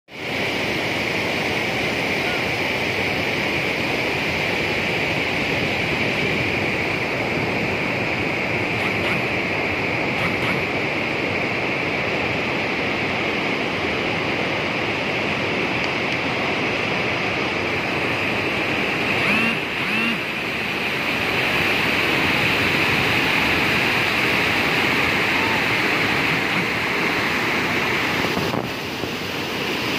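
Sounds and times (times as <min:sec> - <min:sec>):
waterfall rushing: 0:00.2 - 0:29.9.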